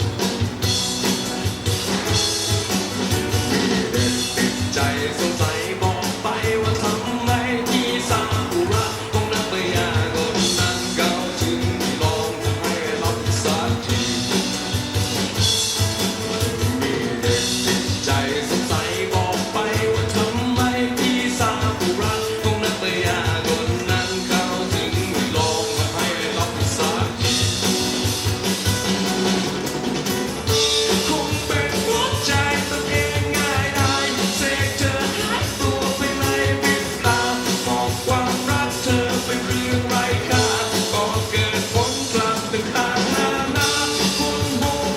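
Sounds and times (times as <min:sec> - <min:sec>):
rock song through speakers: 0:00.0 - 0:44.9
steady drum beat: 0:00.0 - 0:44.9.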